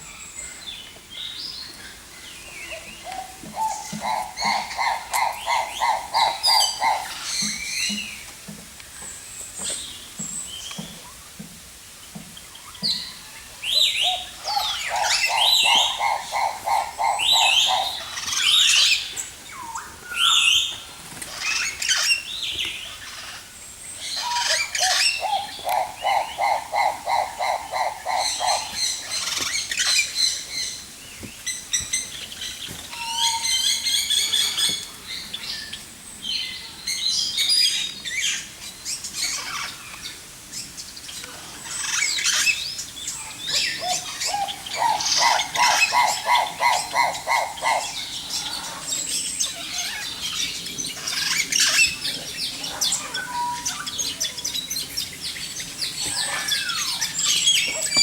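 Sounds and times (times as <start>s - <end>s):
birds trilling and chirping: 0.0s - 11.4s, 12.1s - 58.0s.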